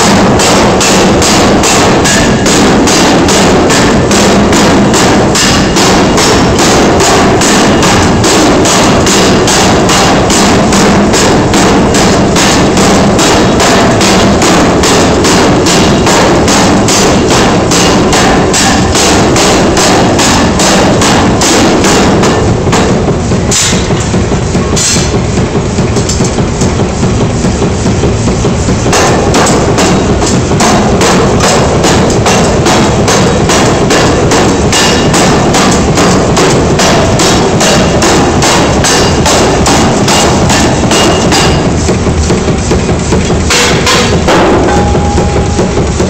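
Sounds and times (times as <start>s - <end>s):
power hammer blows: 0.0s - 46.0s.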